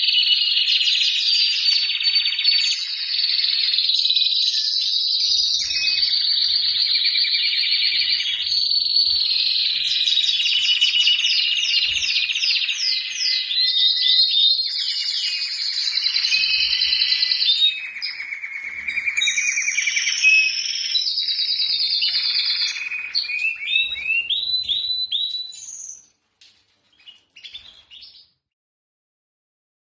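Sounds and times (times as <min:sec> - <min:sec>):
canary singing trills: 0:00.0 - 0:26.1, 0:26.9 - 0:28.4.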